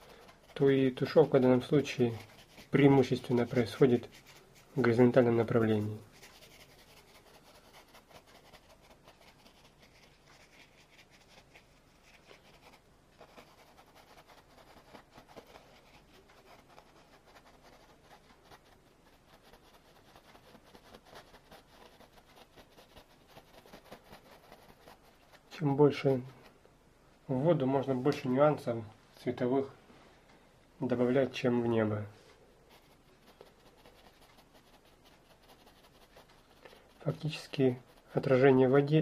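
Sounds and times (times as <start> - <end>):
paintbrush scratching on canvas: 0.0 - 26.5, 32.2 - 39.0.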